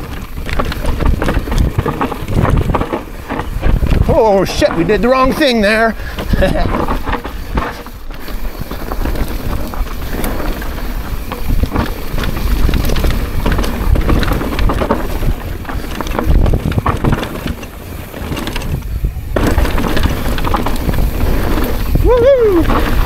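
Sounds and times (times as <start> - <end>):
knocks over rocks and roots: 0.0 - 8.0, 8.8 - 23.0
bike chain and frame rattling: 0.0 - 23.0
wind buffeting microphone: 0.0 - 23.0.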